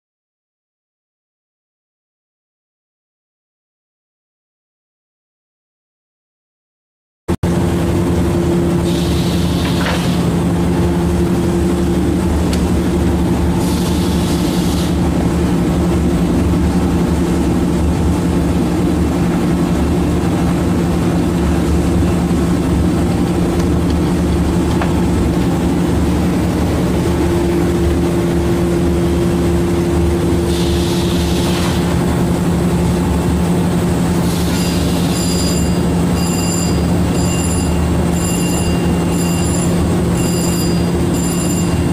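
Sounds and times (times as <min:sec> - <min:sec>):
factory machinery droning: 0:07.4 - 0:41.9.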